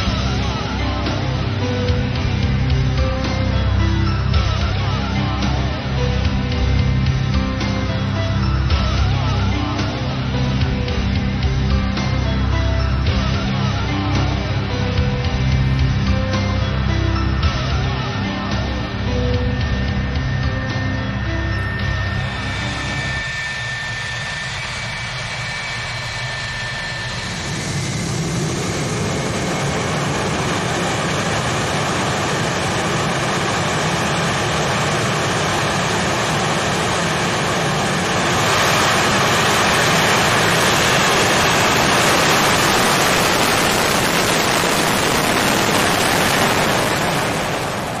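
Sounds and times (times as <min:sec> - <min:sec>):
jet engine noise with whine: 0:00.0 - 0:48.0.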